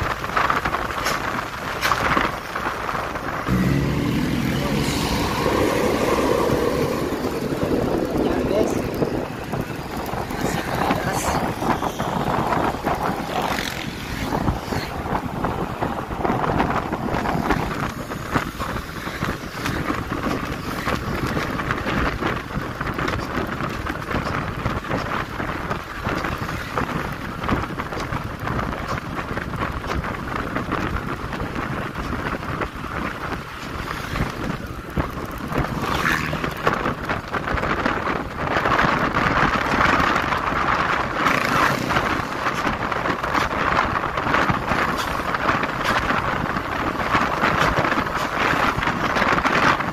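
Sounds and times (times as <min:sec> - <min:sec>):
motorcycle engine and tyre noise: 0:00.0 - 0:49.9
wind buffeting microphone: 0:00.0 - 0:49.9.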